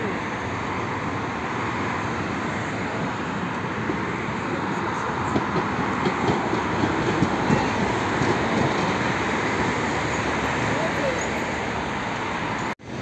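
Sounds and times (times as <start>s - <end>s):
tram rumbling past: 0.1s - 13.0s.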